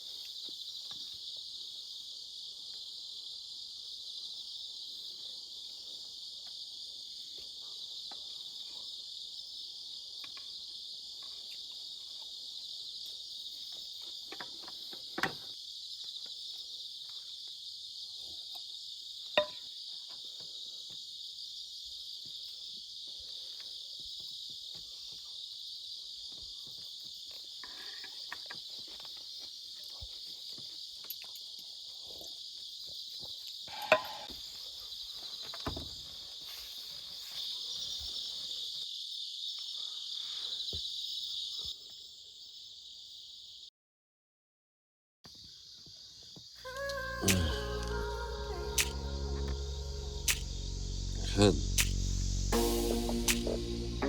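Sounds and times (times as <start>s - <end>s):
crickets chirring: 0.0s - 43.7s, 45.3s - 54.0s.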